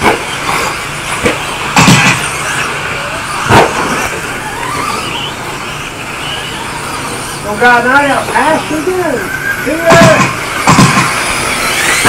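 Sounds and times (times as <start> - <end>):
loud sudden noises: 0.0 - 7.5, 8.1 - 12.0
rc truck motor whine: 0.0 - 12.0.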